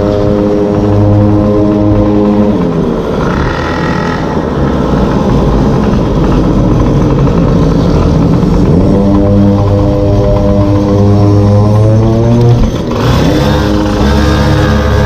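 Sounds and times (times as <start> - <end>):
small two-stroke scooter engine: 0.0 - 15.0.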